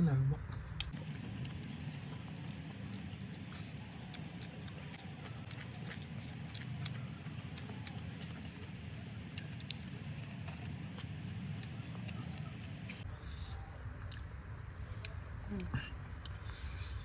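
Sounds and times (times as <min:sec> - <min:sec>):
low background hum: 0:00.0 - 0:17.0
chewing and crunching: 0:00.5 - 0:17.0.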